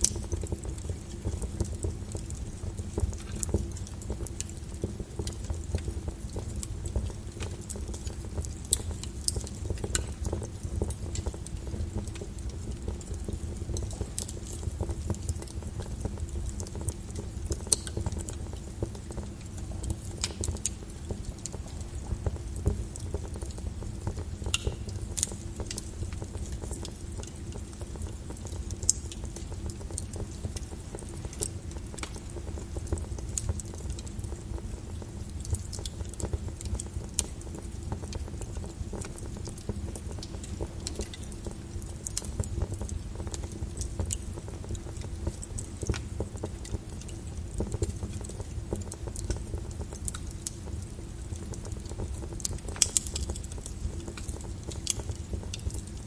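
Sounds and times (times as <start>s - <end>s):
rain patter: 0.0s - 56.0s
wood fire crackling: 0.0s - 56.0s.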